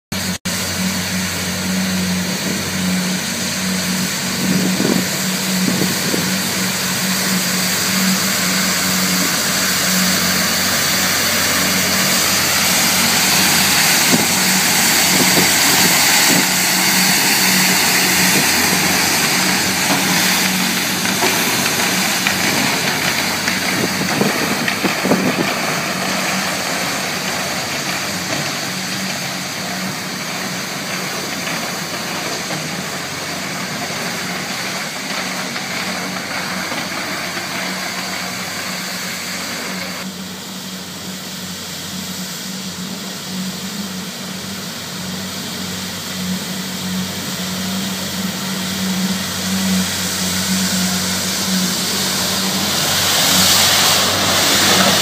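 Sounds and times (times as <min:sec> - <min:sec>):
street sweeper engine hum: 0:00.1 - 0:55.0
broom hiss: 0:00.5 - 0:55.0.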